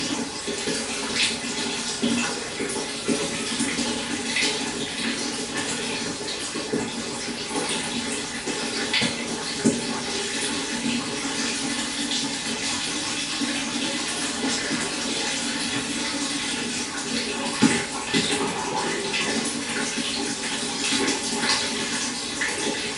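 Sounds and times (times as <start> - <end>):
water splashing and trickling: 0.0 - 22.9.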